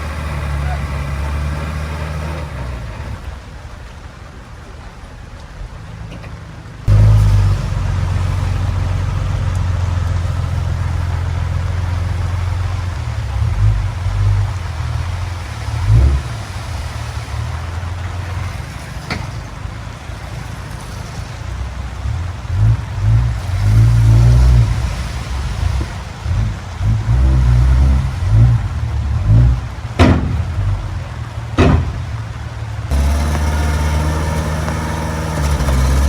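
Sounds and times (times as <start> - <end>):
diesel earthmoving machine running: 0.0 - 4.8, 6.7 - 36.0.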